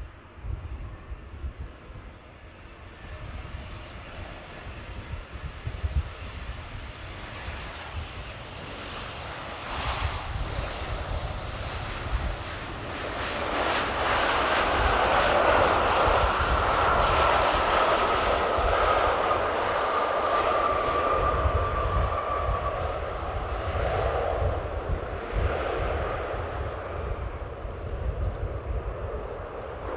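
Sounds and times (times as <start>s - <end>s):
jet engine whine: 0.0s - 29.9s
wind buffeting microphone: 0.0s - 29.9s.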